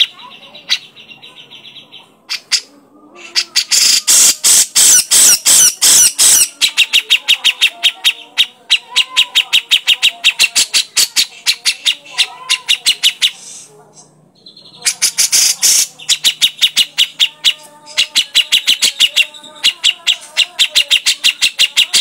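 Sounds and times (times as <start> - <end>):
bird trilling and calling: 0.0 - 22.0.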